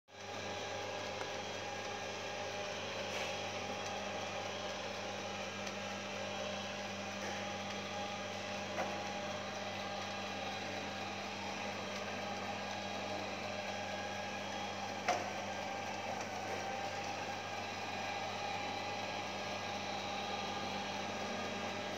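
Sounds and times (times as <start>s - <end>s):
robot vacuum cleaner humming: 0.1s - 21.9s.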